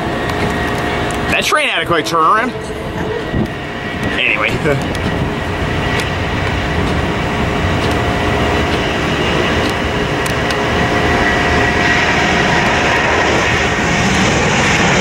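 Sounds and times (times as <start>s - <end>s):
jet engines at takeoff thrust: 0.0s - 15.0s.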